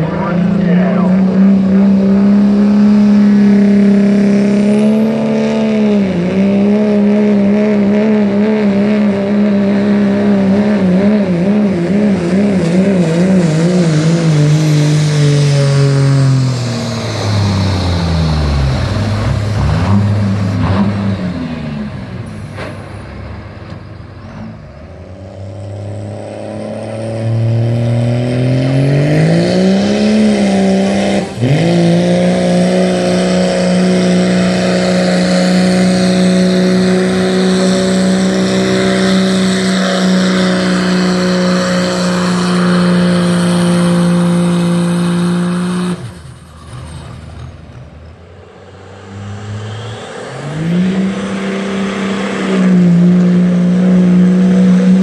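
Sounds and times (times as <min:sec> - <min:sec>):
diesel truck engine revving: 0:00.0 - 0:55.0.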